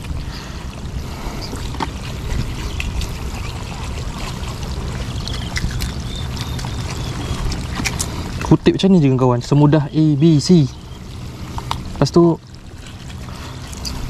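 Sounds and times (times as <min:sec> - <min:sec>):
seawater trickling and sloshing: 0:00.0 - 0:14.0
steady low rumble: 0:00.0 - 0:14.0.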